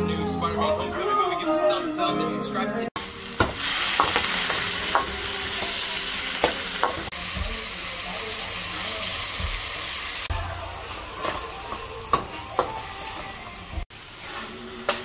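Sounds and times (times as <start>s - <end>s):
vegetables sizzling in a wok: 3.0s - 15.0s.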